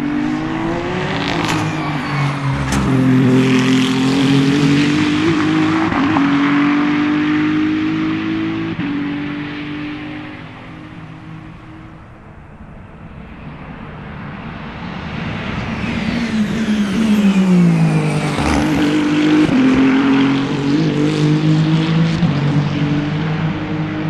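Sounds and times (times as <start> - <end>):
race car engine running hard: 0.0 - 24.0.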